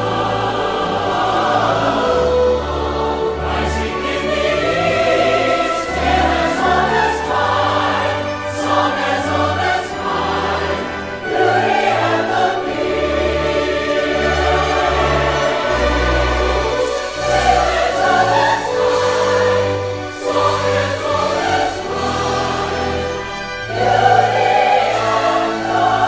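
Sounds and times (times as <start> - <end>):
choral singing: 0.0 - 26.0
orchestral music: 0.0 - 26.0.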